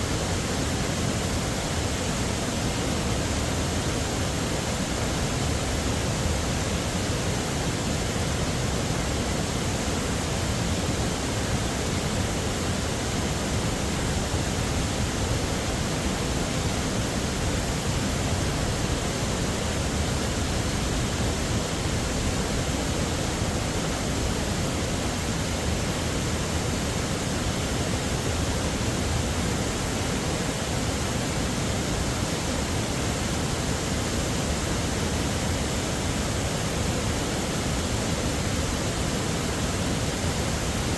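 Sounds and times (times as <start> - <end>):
heavy waterfall rushing: 0.0 - 40.9.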